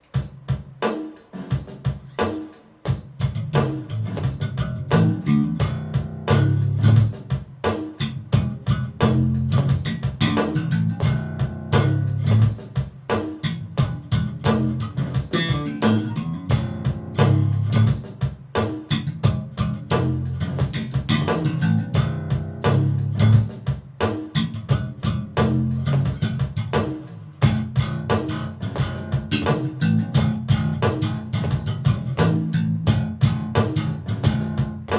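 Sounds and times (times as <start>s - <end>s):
electric bass playing: 3.2s - 7.4s, 8.0s - 12.7s, 13.4s - 18.2s, 18.8s - 23.7s, 24.3s - 34.9s.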